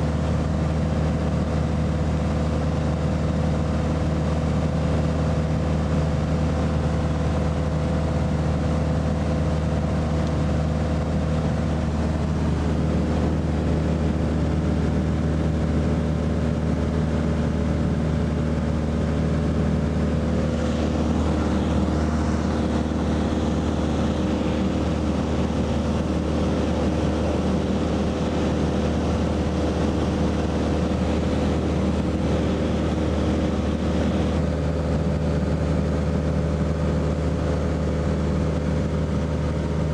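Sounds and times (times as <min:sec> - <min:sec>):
aircraft engine hum: 0:00.0 - 0:39.9.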